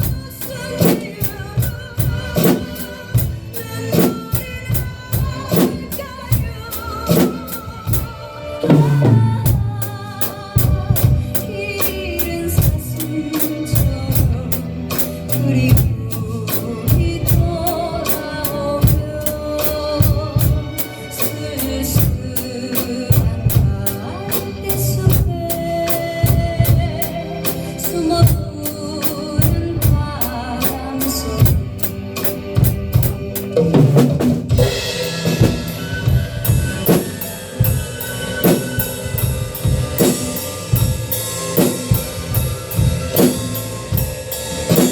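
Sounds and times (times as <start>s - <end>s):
drum kit kick and snare beat: 0.0s - 44.9s
instrumental backing track: 0.0s - 44.9s.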